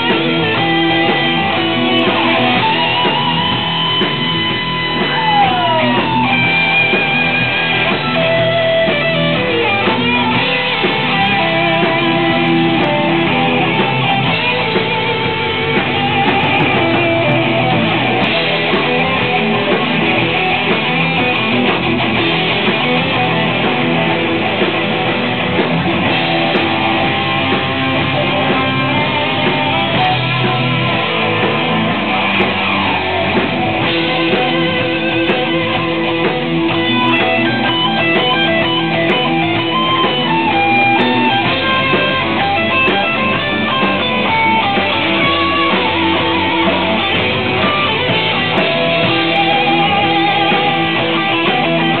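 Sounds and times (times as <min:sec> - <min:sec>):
electric guitar: 0:00.0 - 0:52.0
live rock band playing: 0:00.0 - 0:52.0.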